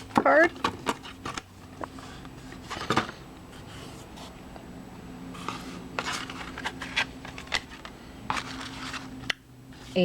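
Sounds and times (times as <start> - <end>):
paper cards rustling and tapping: 0.0 - 3.9, 5.4 - 10.0.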